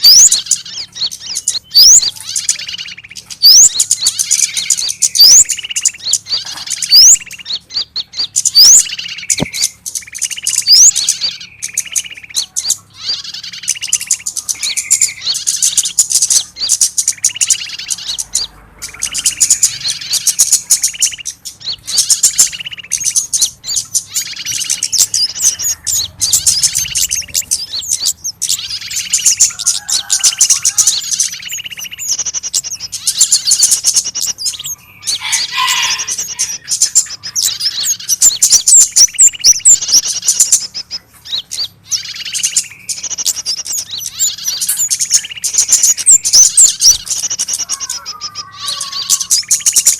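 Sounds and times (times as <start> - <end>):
rising bird whistles: 0.0 - 49.9
small birds chirping: 0.0 - 49.9.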